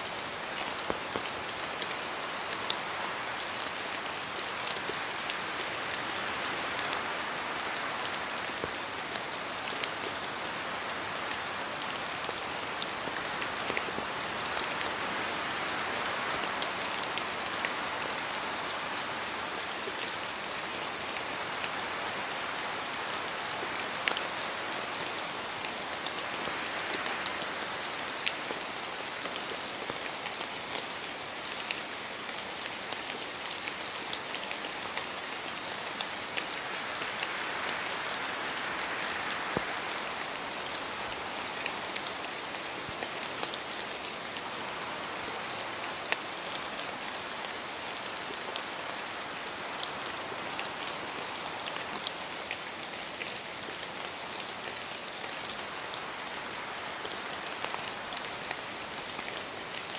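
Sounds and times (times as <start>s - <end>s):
raindrops pattering on surfaces: 0.1s - 59.9s.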